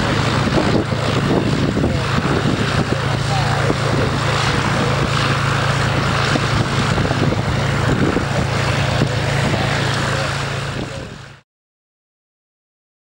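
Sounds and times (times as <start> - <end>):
propeller plane engine running: 0.0 - 11.4.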